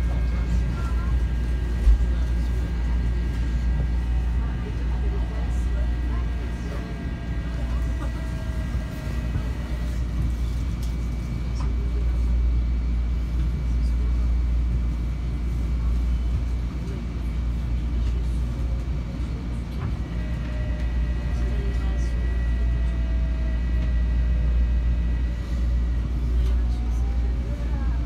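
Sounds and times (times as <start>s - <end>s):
train running gear rumble: 0.0s - 28.0s.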